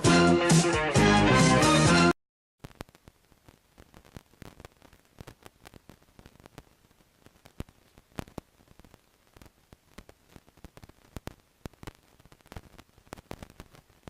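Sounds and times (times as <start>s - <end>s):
crackling static pops: 2.6s - 14.0s
faint hiss: 2.6s - 14.0s.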